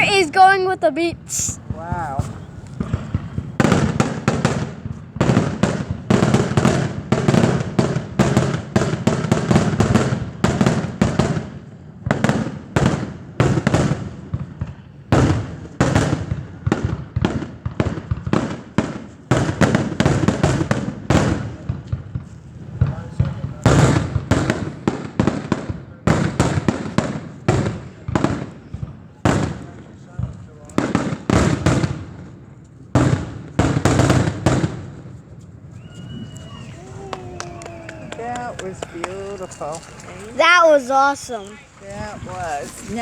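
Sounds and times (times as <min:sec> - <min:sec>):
firework bangs and booms: 0:00.0 - 0:43.0.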